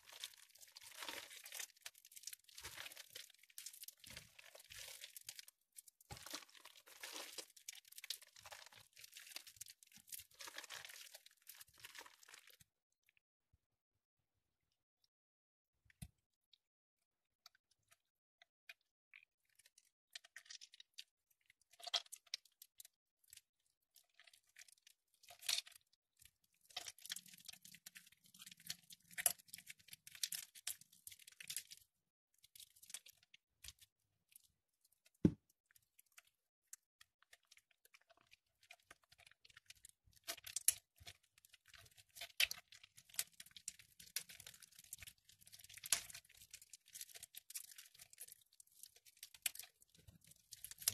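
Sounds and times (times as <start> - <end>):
wet soap squishing and crackling: 0.0 - 13.2, 15.8 - 50.9.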